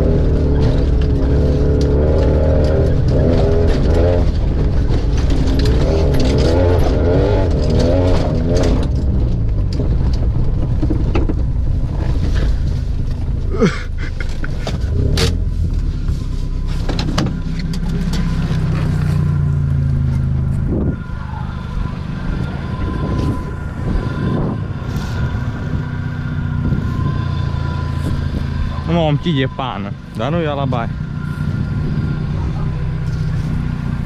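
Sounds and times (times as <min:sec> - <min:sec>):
engine exhaust drone: 0:00.0 - 0:34.0.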